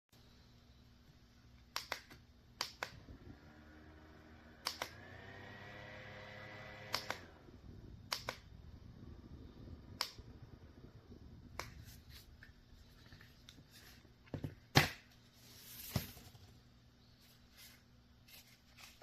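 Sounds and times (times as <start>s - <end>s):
low steady hum: 0.2s - 19.0s.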